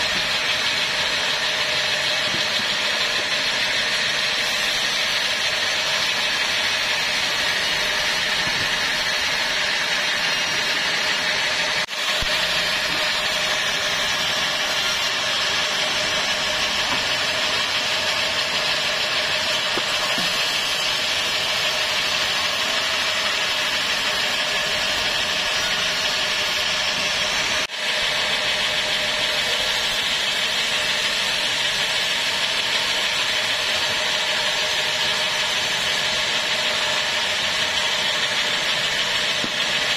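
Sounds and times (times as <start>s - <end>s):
band saw blade cutting timber: 0.0s - 39.9s
sawmill engine running: 0.0s - 39.9s.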